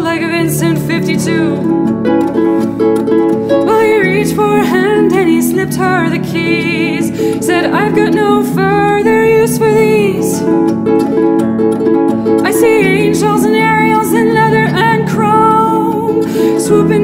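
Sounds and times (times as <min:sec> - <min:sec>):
plucked harp: 0:00.0 - 0:17.0
woman singing folk song: 0:00.0 - 0:17.0.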